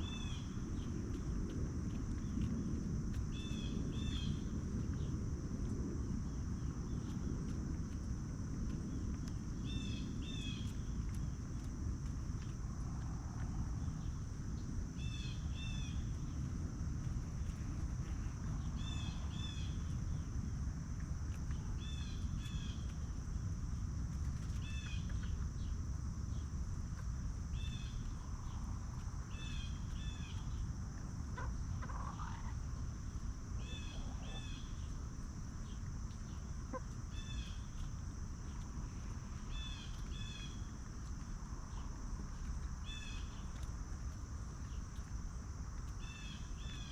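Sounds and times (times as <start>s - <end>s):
low background rumble: 0.0s - 46.9s.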